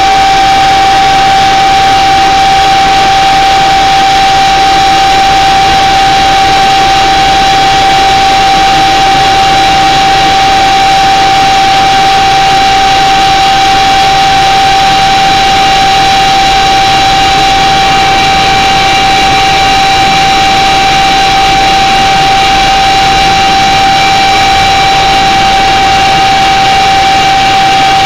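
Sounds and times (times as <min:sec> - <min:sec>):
constant whine: 0:00.0 - 0:28.0.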